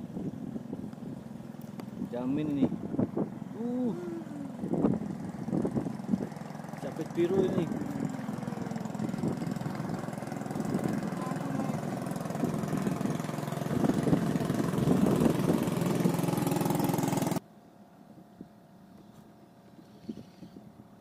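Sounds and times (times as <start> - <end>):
boat engine running: 0.0 - 17.4
faint open-water ambience: 0.0 - 21.0.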